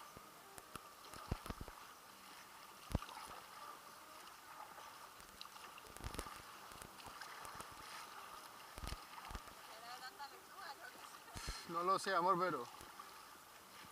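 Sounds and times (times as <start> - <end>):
water splashing around kayak: 0.6 - 13.9.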